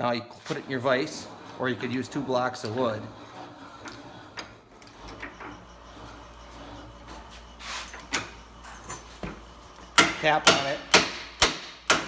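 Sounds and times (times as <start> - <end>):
metal sliding scrape: 0.0 - 10.4.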